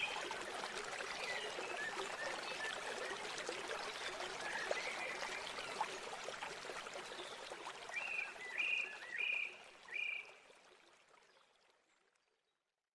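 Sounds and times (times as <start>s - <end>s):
river water running: 0.0s - 12.1s.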